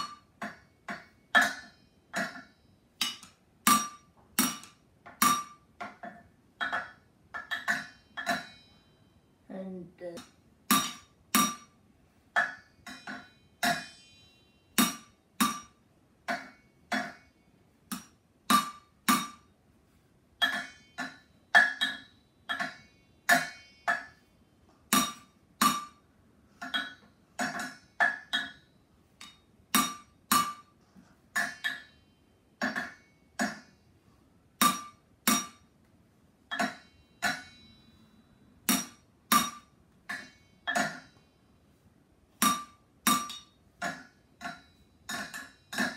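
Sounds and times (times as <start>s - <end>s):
drumsticks beating on pots: 0.0s - 8.8s, 9.8s - 14.1s, 14.8s - 17.3s, 17.9s - 19.5s, 20.4s - 24.2s, 24.8s - 30.8s, 31.4s - 32.0s, 32.6s - 33.8s, 34.6s - 35.7s, 36.5s - 37.7s, 38.6s - 41.2s, 42.3s - 45.9s.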